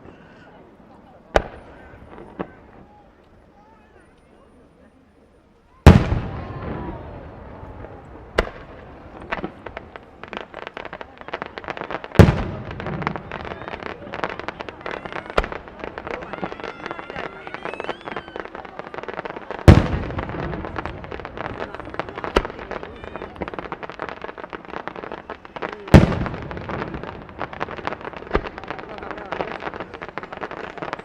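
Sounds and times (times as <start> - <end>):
firework crackling: 5.8 - 31.0
firework shells booming: 5.8 - 31.0.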